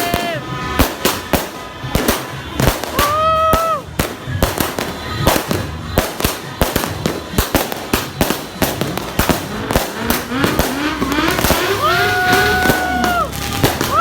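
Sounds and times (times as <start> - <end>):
fireworks cracking: 0.0 - 14.0.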